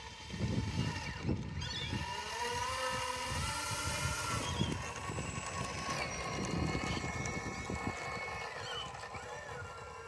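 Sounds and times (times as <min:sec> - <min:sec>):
electric motors buzzing whine: 0:00.0 - 0:10.0.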